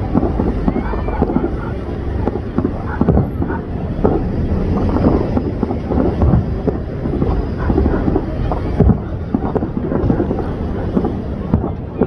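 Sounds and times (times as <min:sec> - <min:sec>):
distant fireworks booming: 0:00.0 - 0:12.0
loud firework bang: 0:00.0 - 0:12.0.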